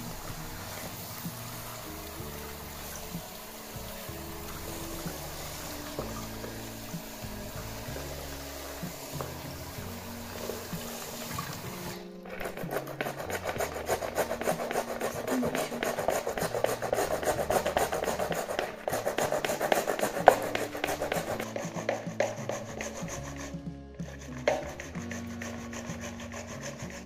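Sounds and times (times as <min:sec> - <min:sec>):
background music: 0:00.0 - 0:27.0
tomato scraping on plastic grater: 0:00.0 - 0:27.0.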